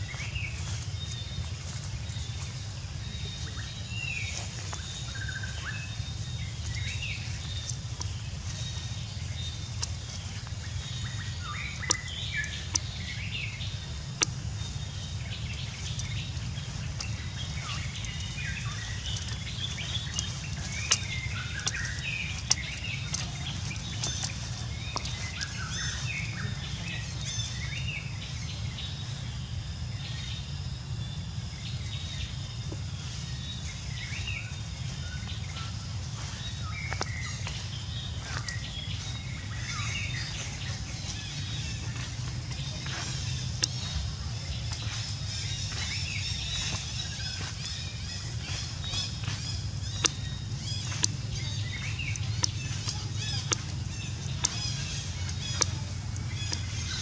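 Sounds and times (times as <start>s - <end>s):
high chirping calls: 0.0s - 29.0s, 33.0s - 57.0s
steady low rumble: 0.0s - 57.0s.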